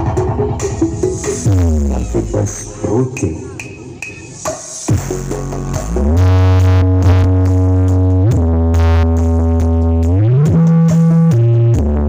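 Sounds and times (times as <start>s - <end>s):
loud electronic dance music: 0.0s - 12.0s.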